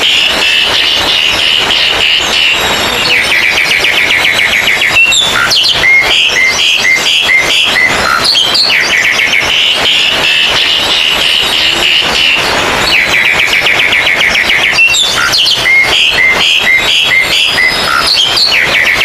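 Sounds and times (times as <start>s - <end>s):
bird whistled notes: 0.0s - 19.0s
birds chattering trills: 0.0s - 19.0s.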